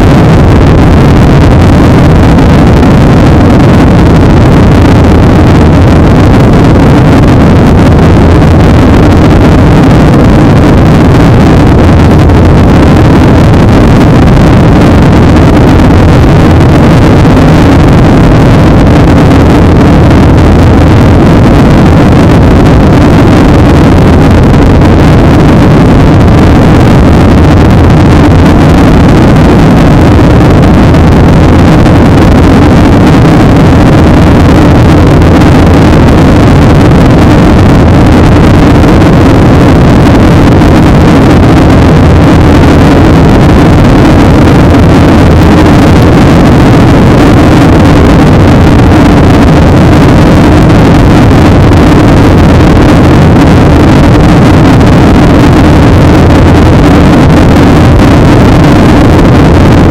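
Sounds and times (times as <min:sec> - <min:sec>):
jet engines in flight: 0:00.0 - 0:48.2.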